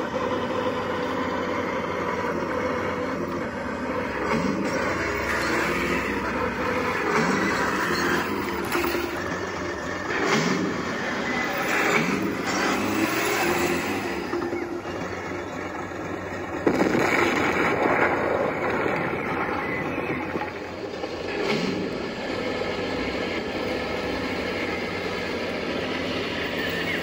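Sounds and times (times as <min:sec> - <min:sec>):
tank engine revving: 0:00.0 - 0:27.0
rush of noise: 0:04.0 - 0:27.0.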